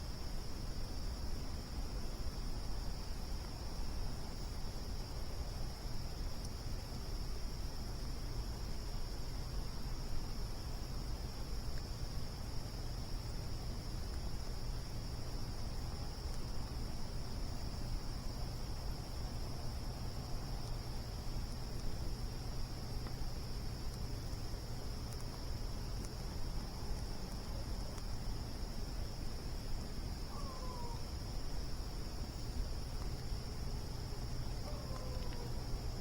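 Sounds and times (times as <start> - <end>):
crickets trilling: 0.0 - 36.0
campfire burning: 0.4 - 30.3, 31.0 - 36.0.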